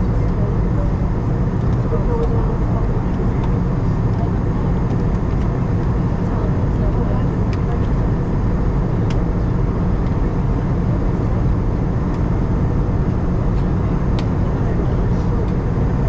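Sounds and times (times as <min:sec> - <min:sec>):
airplane cabin engine rush: 0:00.0 - 0:16.0.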